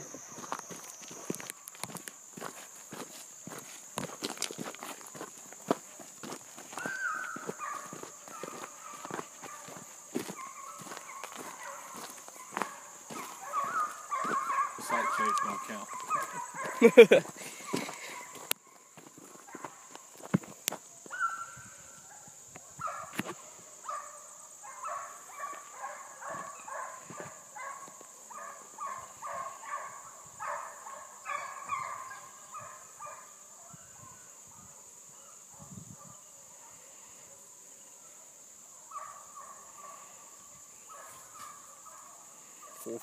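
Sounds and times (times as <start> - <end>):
high insect drone: 0.0 - 43.0
hounds baying: 5.2 - 20.0, 21.0 - 43.0.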